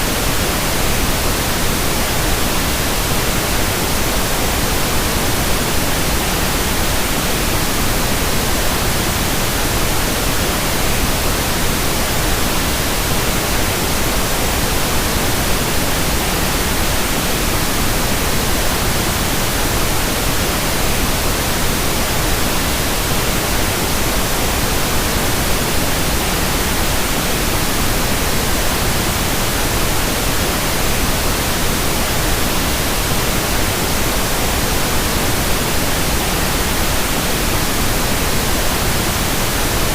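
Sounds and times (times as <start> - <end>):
steady broadband hiss: 0.0 - 39.9.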